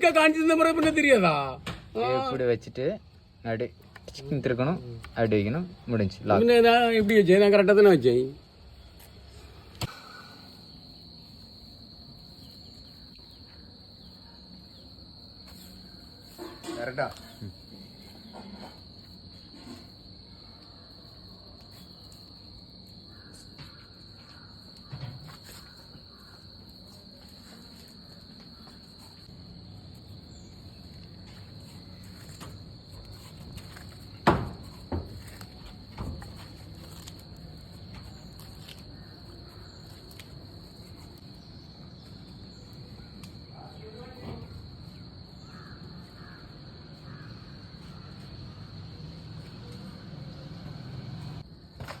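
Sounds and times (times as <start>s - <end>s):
insect trill: 0.0s - 52.0s.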